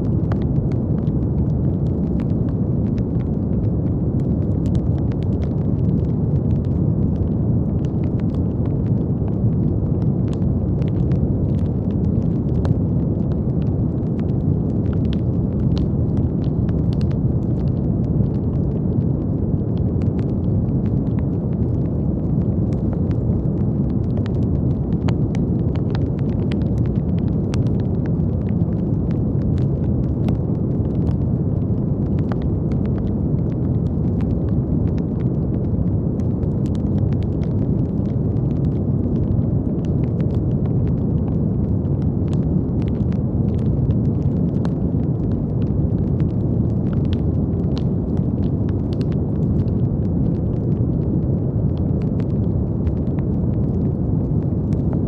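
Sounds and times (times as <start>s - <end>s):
brown noise: 0.0s - 55.0s
faint crackling clicks: 0.0s - 55.0s.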